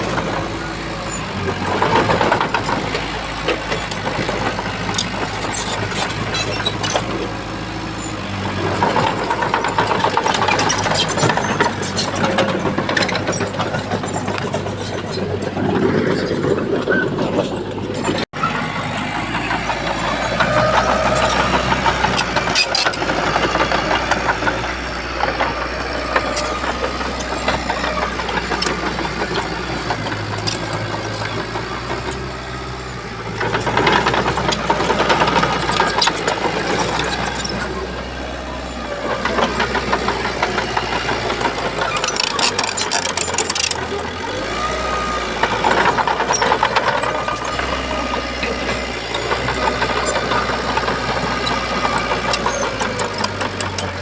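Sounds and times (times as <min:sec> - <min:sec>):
bulldozer diesel engine running: 0:00.0 - 0:54.0
rattles and clicks: 0:00.0 - 0:54.0.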